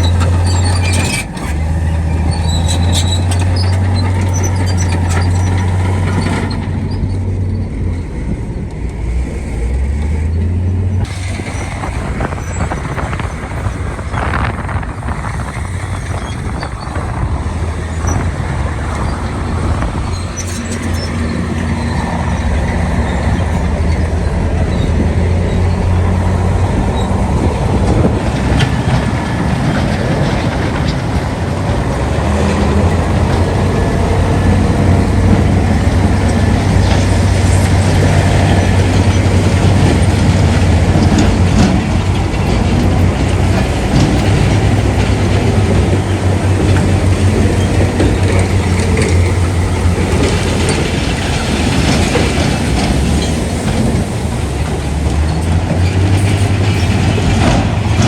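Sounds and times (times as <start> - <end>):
diesel machinery engine hum: 0.0 - 58.0.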